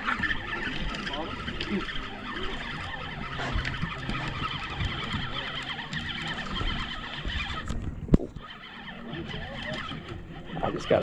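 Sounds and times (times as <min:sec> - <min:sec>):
boat engine humming: 0:00.0 - 0:11.0
deck noise: 0:00.0 - 0:11.0.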